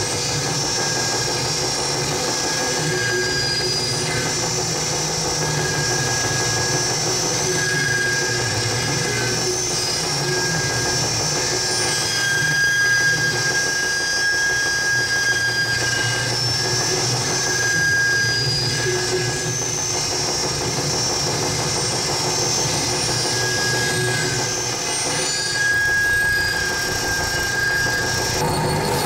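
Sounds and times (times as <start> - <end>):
electronic noise drone: 0.0 - 29.0.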